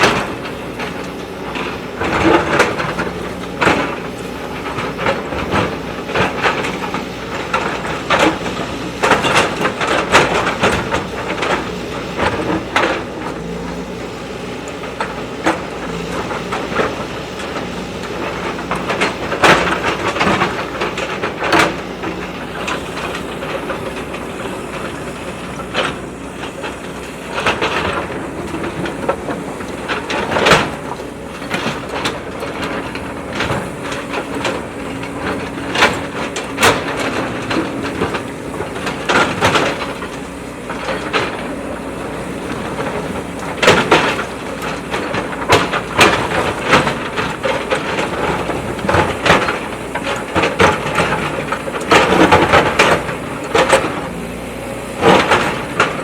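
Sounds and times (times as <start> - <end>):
bucket and arm clanking: 0.0 - 56.0
diesel engine under load: 0.0 - 56.0.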